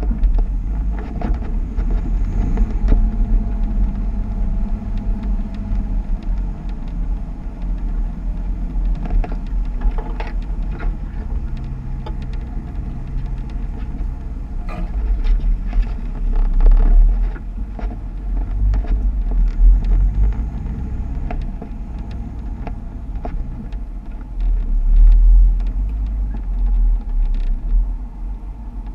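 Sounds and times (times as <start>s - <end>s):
engine low rumble: 0.0s - 28.9s
vehicle knocks and creaks: 0.0s - 28.9s.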